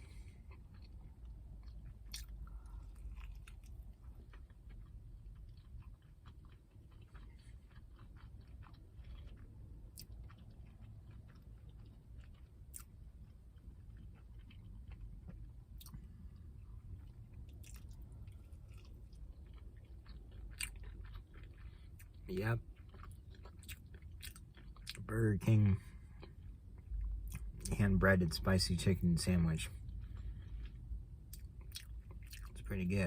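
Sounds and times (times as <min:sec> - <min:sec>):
chewing crispy food: 0:00.0 - 0:33.0.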